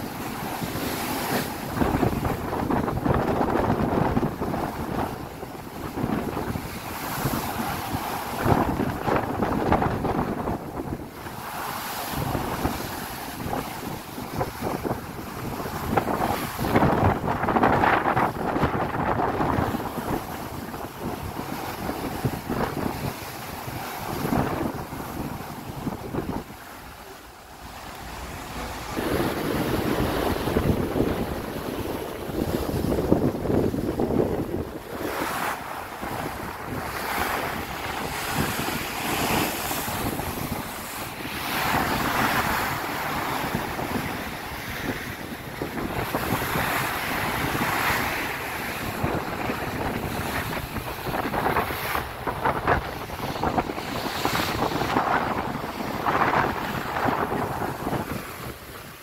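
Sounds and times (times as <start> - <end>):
waves breaking along ship hull: 0.0 - 59.0
wind blowing across microphone: 0.0 - 59.0.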